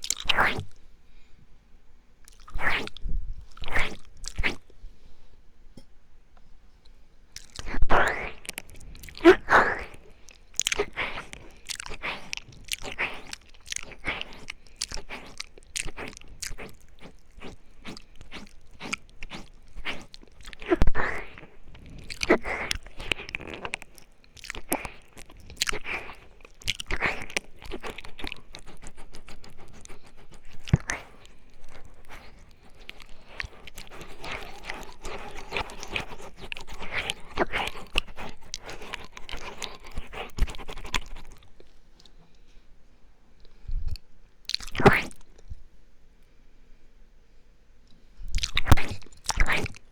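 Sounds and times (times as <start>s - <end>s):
wet mouth clicks and smacks: 0.0s - 0.8s, 2.2s - 4.6s, 7.4s - 41.5s, 43.9s - 45.3s, 48.3s - 49.9s.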